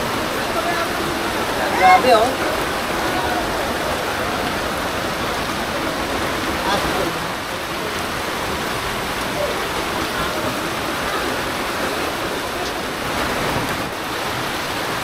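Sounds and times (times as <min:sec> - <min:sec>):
heavy rain on water: 0:00.0 - 0:15.0.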